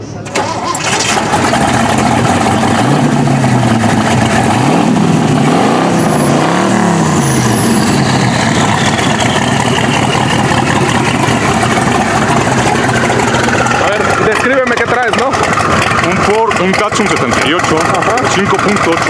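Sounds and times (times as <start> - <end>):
car engine revving and idling: 0.7 - 19.0
high turbo whine: 0.7 - 19.0.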